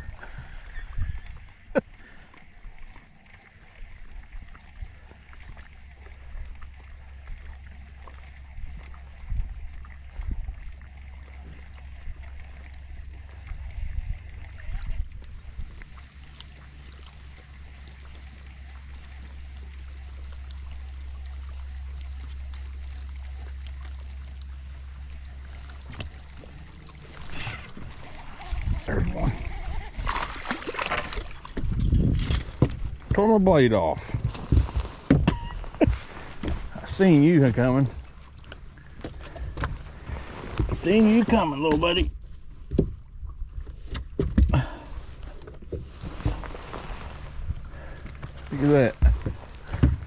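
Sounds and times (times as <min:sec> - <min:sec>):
faint water sounds: 0:00.0 - 0:50.0
steady low hum: 0:00.0 - 0:50.0.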